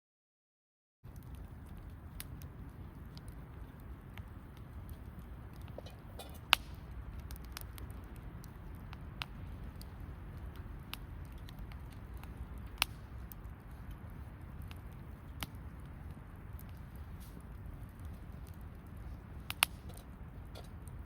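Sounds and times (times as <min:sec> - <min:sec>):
campfire crackling: 0:01.0 - 0:21.0.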